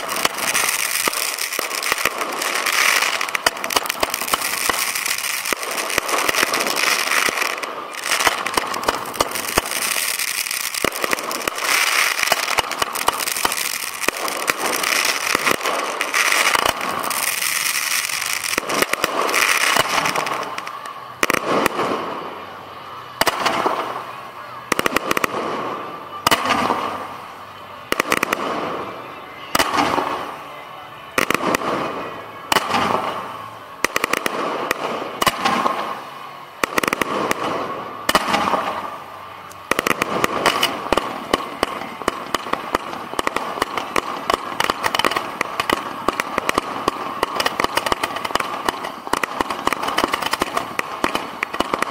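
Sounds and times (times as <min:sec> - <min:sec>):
firework launches and bursts: 0:00.0 - 0:22.4, 0:31.2 - 0:51.9
fireworks crackling and banging: 0:00.0 - 0:51.9.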